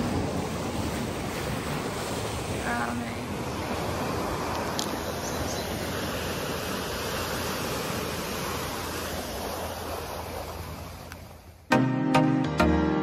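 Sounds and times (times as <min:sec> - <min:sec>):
ocean surf washing: 0:00.0 - 0:11.8.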